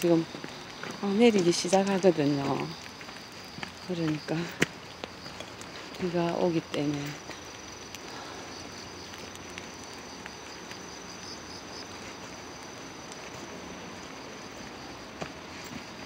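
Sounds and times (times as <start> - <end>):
footsteps on forest floor: 0.0 - 16.0
insects trilling: 0.0 - 16.0
light rain on leaves: 0.0 - 16.0.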